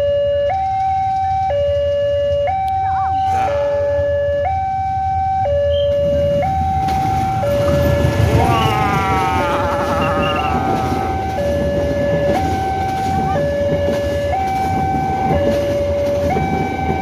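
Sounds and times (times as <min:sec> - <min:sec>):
two-tone crossing alarm: 0:00.0 - 0:17.0
train coaches rumbling past: 0:00.5 - 0:17.0.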